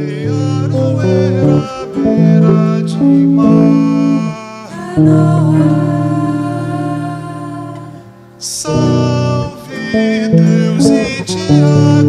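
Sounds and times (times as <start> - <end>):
guitar chords: 0.0 - 12.0
person singing: 0.0 - 12.0.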